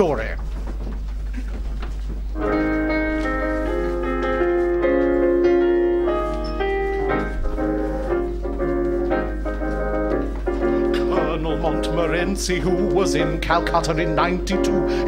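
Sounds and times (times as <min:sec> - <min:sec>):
piano chords: 0:02.2 - 0:15.0.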